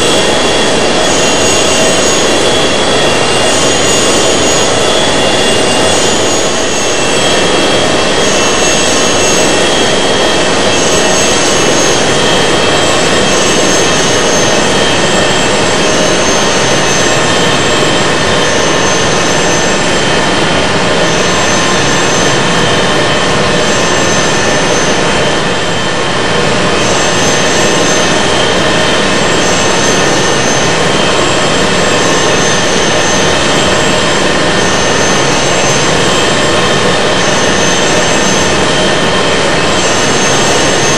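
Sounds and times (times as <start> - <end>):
jet engines roaring with high whine: 0.0 - 40.9.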